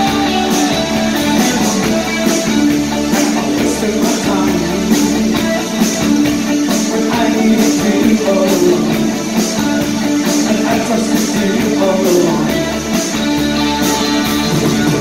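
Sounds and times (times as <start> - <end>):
drum and cymbal hits: 0.0 - 15.0
rock band playing live: 0.0 - 15.0.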